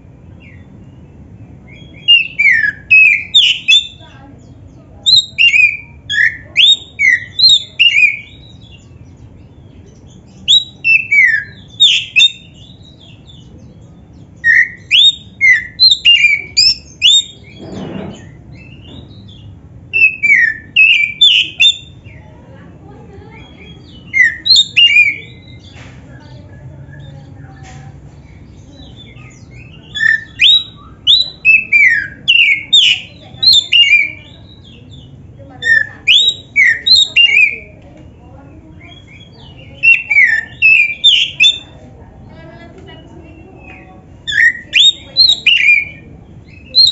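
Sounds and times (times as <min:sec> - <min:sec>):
bird whistling song: 0:00.3 - 0:04.1, 0:05.0 - 0:22.2, 0:23.4 - 0:27.8, 0:28.6 - 0:37.8, 0:38.7 - 0:41.8, 0:43.2 - 0:46.9.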